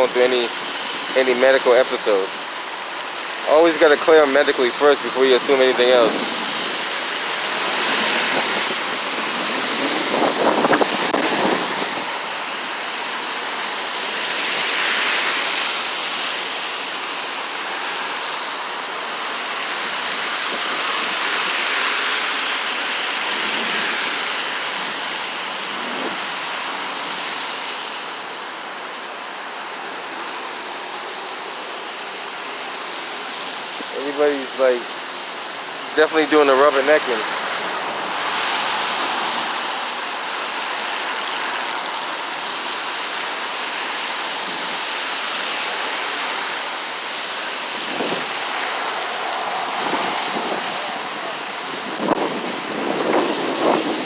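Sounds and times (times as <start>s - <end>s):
highway traffic rushing: 0.0s - 54.0s.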